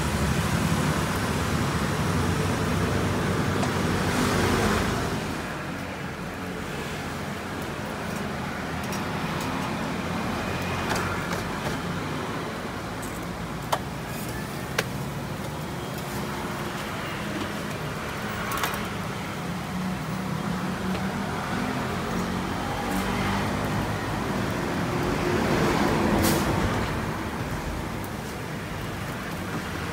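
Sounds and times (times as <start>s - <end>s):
road traffic hum: 0.0s - 29.9s.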